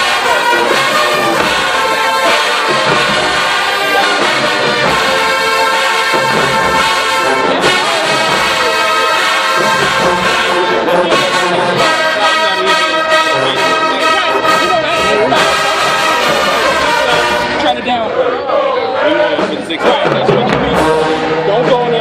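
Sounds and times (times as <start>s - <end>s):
marching brass band playing: 0.0s - 22.0s
trombones: 0.0s - 22.0s.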